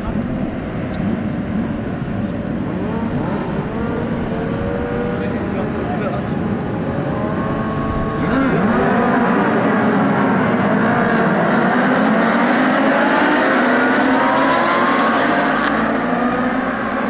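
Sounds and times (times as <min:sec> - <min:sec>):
racing motorcycles accelerating: 0:00.0 - 0:17.0.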